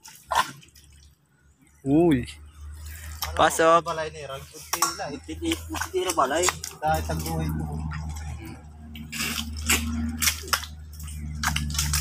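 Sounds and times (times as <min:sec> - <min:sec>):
wet mud squelching: 0:00.0 - 0:12.0.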